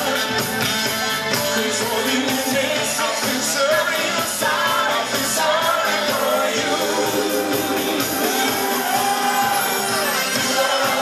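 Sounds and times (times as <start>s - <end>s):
man singing: 0.0s - 8.6s, 10.3s - 11.0s
live band playing pop: 0.0s - 11.0s.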